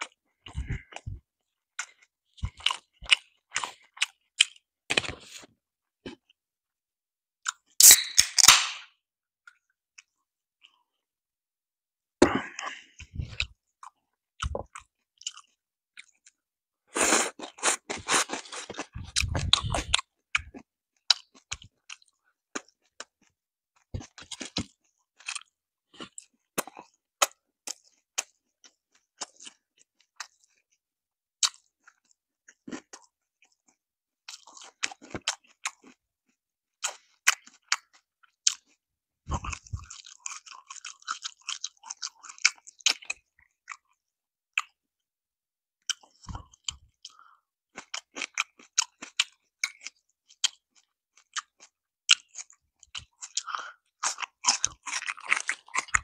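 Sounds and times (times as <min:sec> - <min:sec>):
crunchy chewing of fried chicken: 0:00.0 - 0:06.4, 0:12.3 - 0:44.9, 0:45.8 - 0:56.0.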